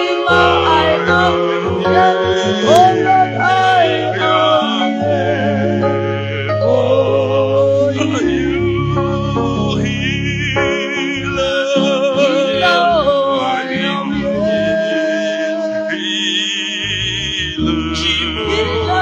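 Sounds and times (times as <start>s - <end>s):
bass: 0.0s - 15.8s, 16.8s - 19.0s
keyboard chords: 0.0s - 19.0s
person singing with vibrato: 0.0s - 19.0s.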